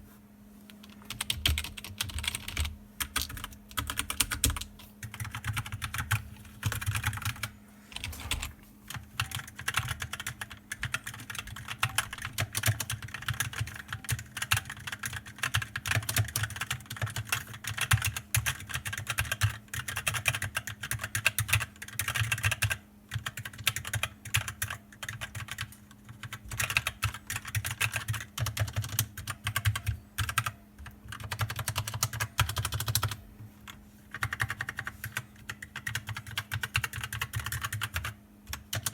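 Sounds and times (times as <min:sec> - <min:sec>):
faint steady hum: 0:00.0 - 0:38.9
fast typing on keyboard: 0:01.1 - 0:38.9.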